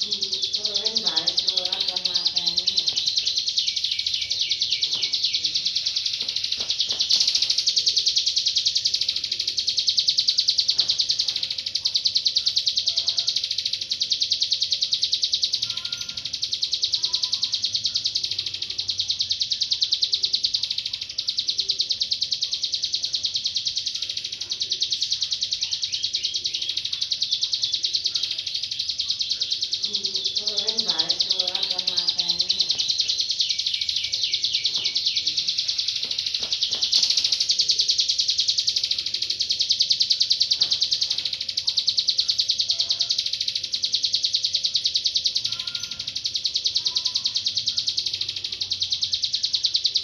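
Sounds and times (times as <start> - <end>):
bird singing rapid high notes: 0.0 - 50.0.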